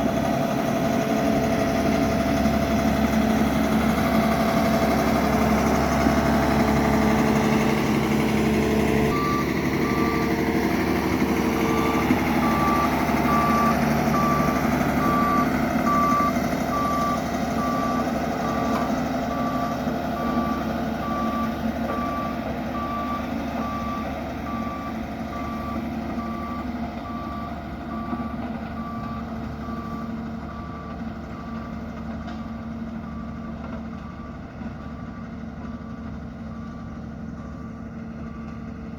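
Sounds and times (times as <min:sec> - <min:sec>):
road roller diesel engine running: 0:00.0 - 0:38.9
reversing alarm beeping: 0:00.4 - 0:35.4.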